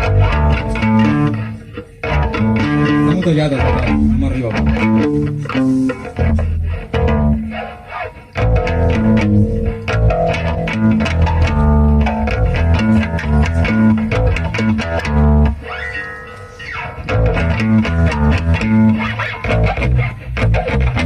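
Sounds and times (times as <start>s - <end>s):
bass guitar: 0.0s - 21.0s
electric guitar: 0.0s - 21.0s.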